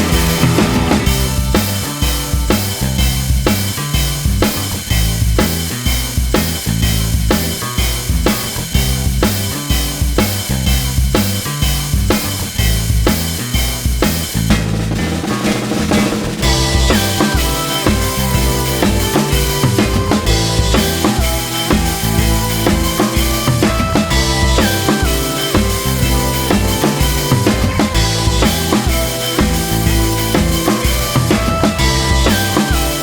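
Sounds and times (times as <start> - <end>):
music with drum beat and bass: 0.0 - 33.0.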